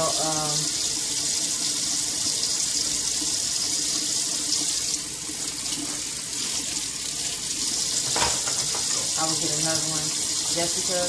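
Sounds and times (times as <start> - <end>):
faucet running into metal sink: 0.0 - 11.0.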